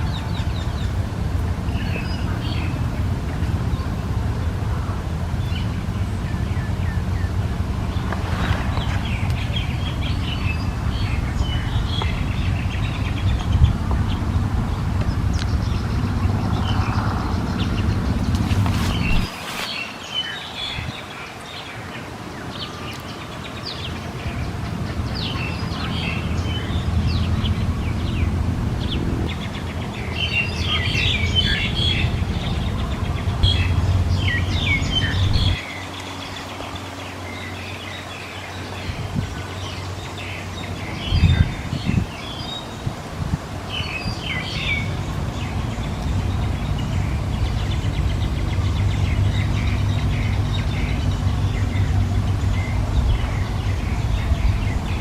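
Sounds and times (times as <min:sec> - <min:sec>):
steady low rumble: 0:00.0 - 0:19.6, 0:23.8 - 0:37.5, 0:38.7 - 0:55.0
small birds chirping: 0:00.0 - 0:55.0.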